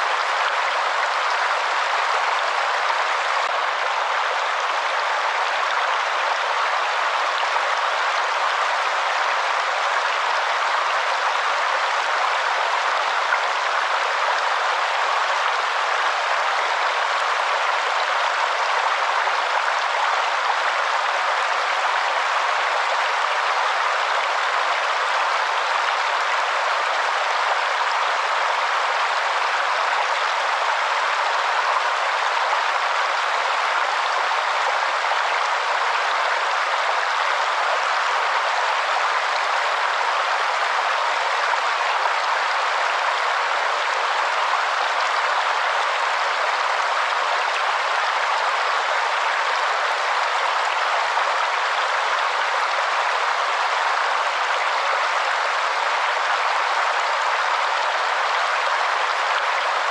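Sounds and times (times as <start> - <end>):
waterfall: 0.0 - 59.9.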